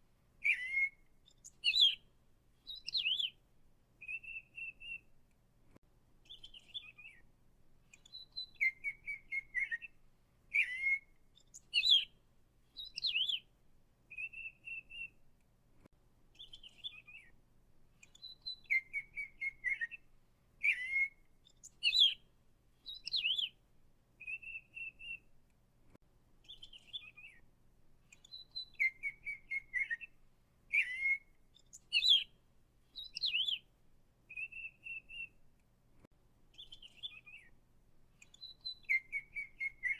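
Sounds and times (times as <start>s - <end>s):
songbird singing: 0.0s - 5.3s, 6.2s - 15.3s, 16.3s - 25.4s, 26.4s - 35.5s, 36.5s - 39.9s.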